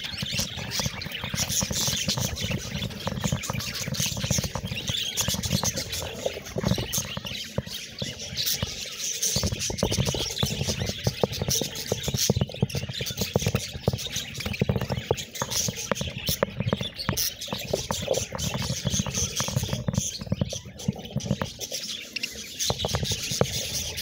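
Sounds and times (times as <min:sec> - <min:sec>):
budgerigars chattering and chirping: 0:00.0 - 0:24.0.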